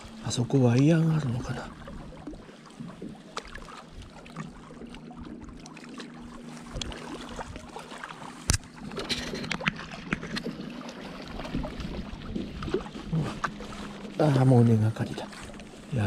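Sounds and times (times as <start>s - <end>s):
faint water sounds: 0.0s - 16.0s.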